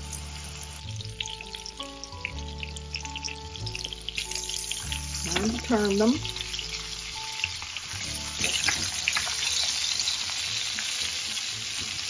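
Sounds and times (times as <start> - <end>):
meat sizzling in butter: 0.0 - 12.0.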